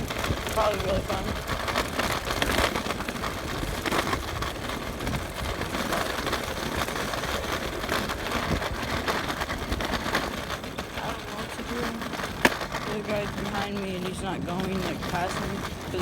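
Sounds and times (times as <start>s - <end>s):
tyre and road rumble: 0.0s - 16.0s
wind buffeting microphone: 0.0s - 16.0s.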